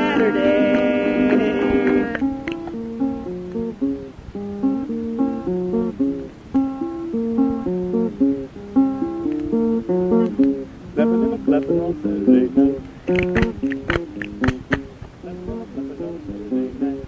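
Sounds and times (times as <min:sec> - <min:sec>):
acoustic guitar fingerpicking: 0:00.0 - 0:17.0.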